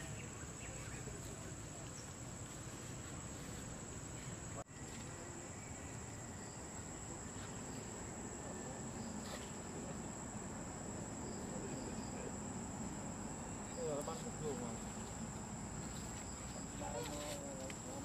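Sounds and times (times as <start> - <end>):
high-pitched insect chorus: 0.0 - 18.0
outdoor background hiss: 0.0 - 18.0.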